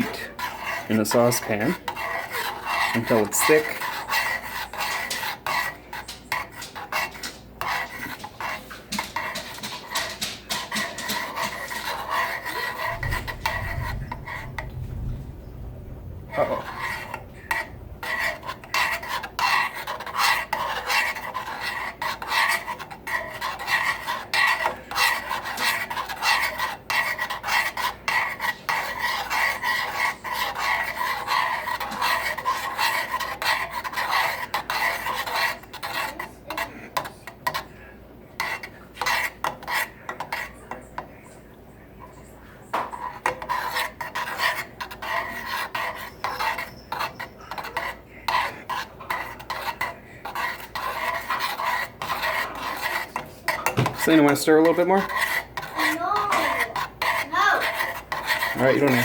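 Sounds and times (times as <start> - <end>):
utensil scraping a saucepan: 0.0 - 59.0.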